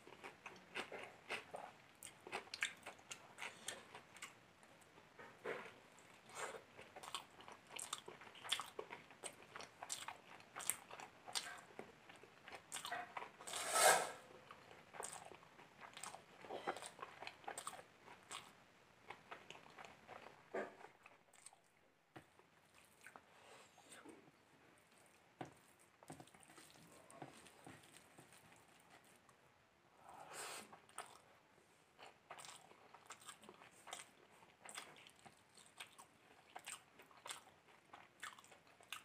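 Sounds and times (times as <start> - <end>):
chewing with mouth clicks: 0.0 - 13.4, 14.4 - 24.2, 24.8 - 29.4, 30.7 - 31.3, 32.0 - 39.0.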